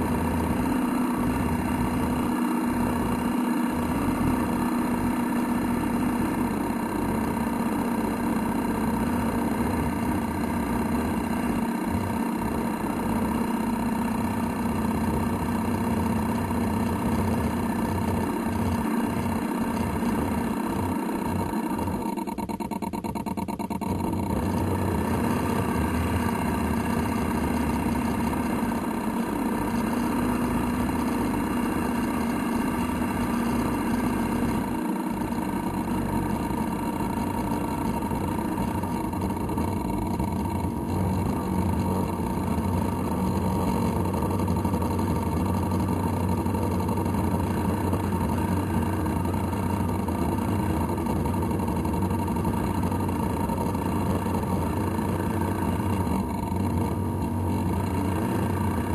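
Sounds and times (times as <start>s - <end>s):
model boat motor humming and whining: 0.0s - 58.9s.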